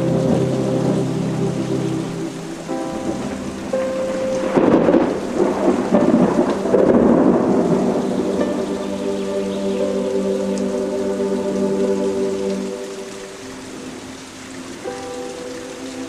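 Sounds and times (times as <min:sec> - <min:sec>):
thunder rumble: 0:00.0 - 0:14.2
soft sustained music tones: 0:00.0 - 0:16.0
steady rain: 0:00.0 - 0:16.0.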